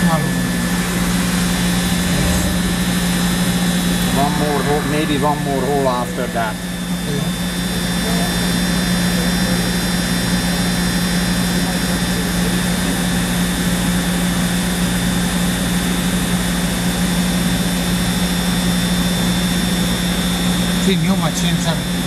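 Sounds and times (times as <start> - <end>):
machine hum with high whine: 0.0 - 22.0.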